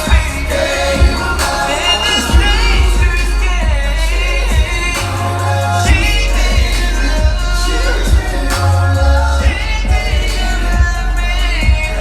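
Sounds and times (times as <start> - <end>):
live r and b music: 0.0 - 12.0.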